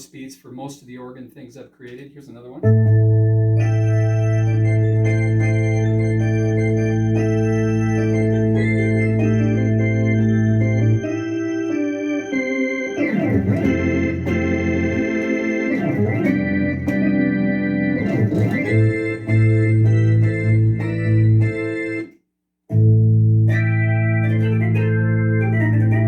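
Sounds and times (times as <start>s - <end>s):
organ chords on synthesizer: 2.6s - 26.0s.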